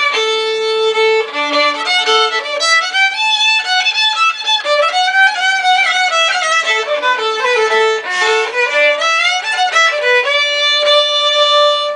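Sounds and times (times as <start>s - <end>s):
solo violin melody: 0.0s - 11.9s.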